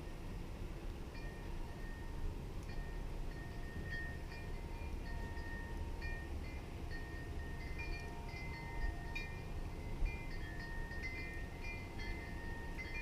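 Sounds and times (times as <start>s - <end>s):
wind chimes ringing: 1.1s - 13.0s.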